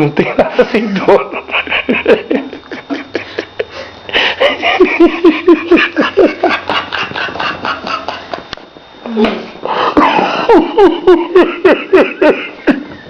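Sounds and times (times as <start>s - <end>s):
people laughing: 0.0s - 8.6s, 9.7s - 13.0s.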